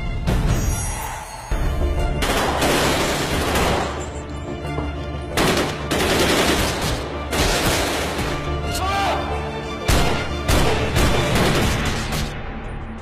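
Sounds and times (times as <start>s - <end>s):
dramatic music score: 0.0s - 13.0s.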